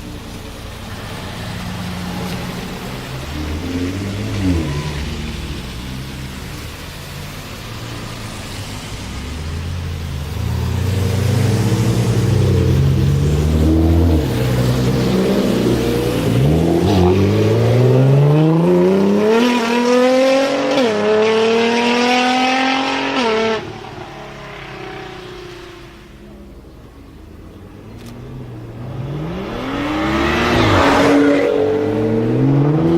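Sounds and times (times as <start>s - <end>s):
car engine accelerating: 0.0s - 32.9s.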